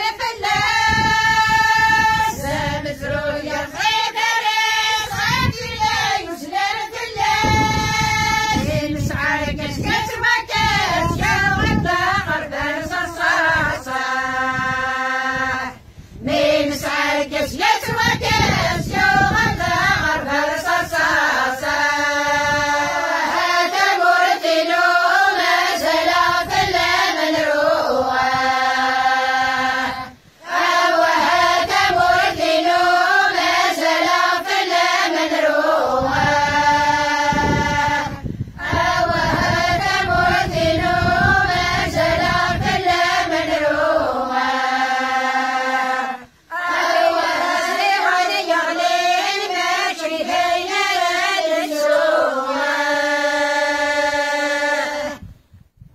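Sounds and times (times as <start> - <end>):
women and girls singing unaccompanied: 0.0 - 55.6.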